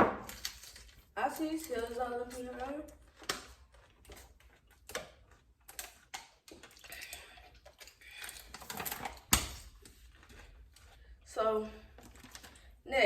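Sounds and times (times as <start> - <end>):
utensils clicking and tapping: 0.2 - 11.0.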